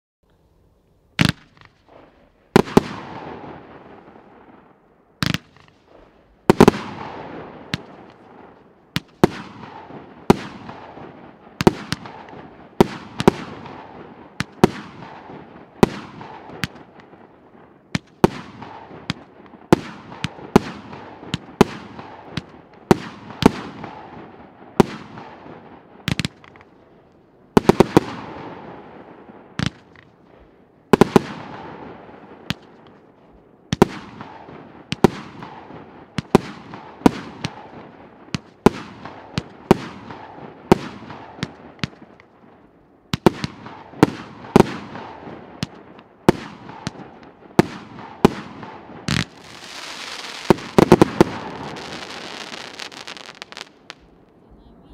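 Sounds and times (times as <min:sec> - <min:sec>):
firework bangs: 0:01.2 - 0:26.9, 0:27.5 - 0:54.9.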